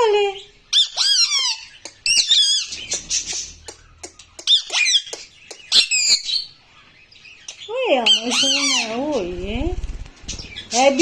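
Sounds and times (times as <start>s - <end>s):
parrots squawking and chattering: 0.0s - 11.0s.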